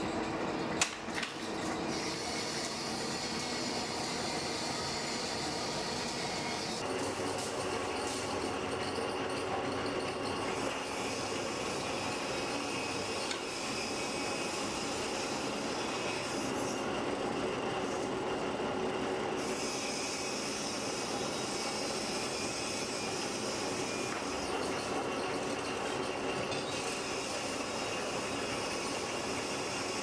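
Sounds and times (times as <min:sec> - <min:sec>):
workshop machine running: 0:00.0 - 0:30.0.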